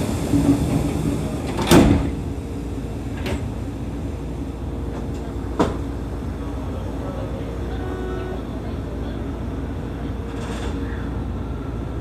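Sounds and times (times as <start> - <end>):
low hum in train cab: 0.0 - 12.0.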